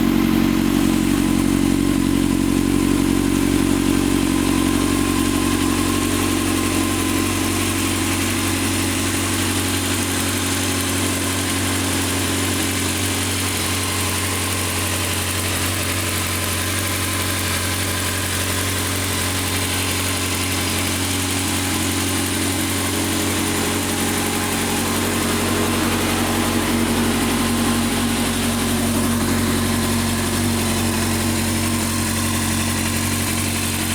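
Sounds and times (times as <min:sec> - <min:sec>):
engine ticking: 0:00.0 - 0:33.9
motorcycle engine idling: 0:00.0 - 0:33.9.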